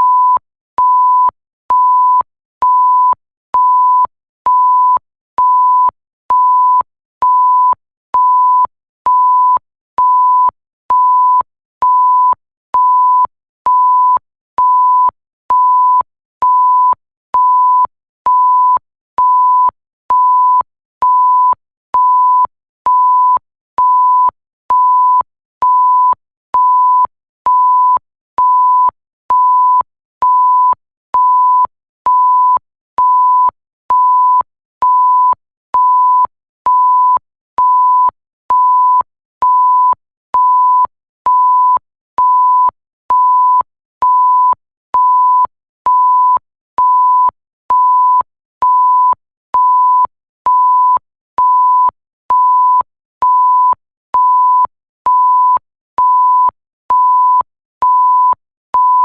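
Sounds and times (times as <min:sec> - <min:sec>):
censor bleep beeps: 0:00.0 - 0:59.0.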